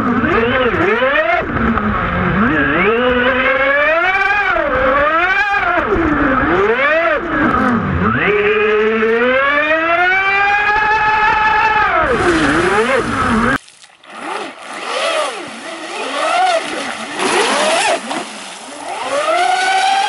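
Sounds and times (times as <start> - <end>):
model boat motor revving: 0.0 - 20.0.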